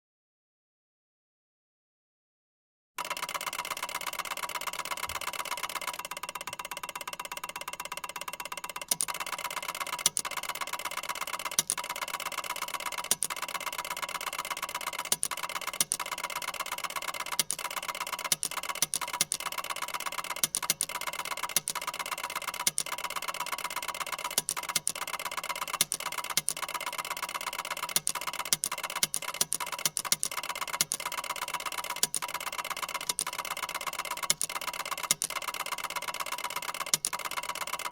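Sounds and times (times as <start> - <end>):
ticker tape machine chatter: 3.0 - 37.9.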